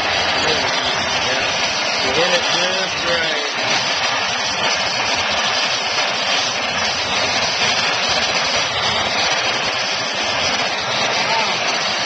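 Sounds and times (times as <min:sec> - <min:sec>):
gas torch flame rushing: 0:00.0 - 0:12.0.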